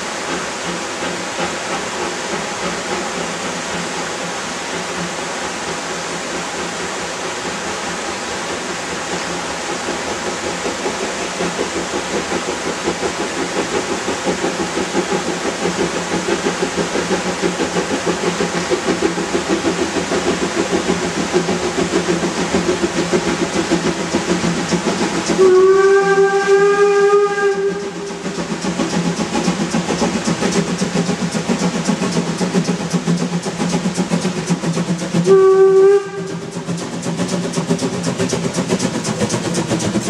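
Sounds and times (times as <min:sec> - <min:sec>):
rushing stream: 0:00.0 - 0:40.0
steam locomotive exhaust beats: 0:00.0 - 0:40.0.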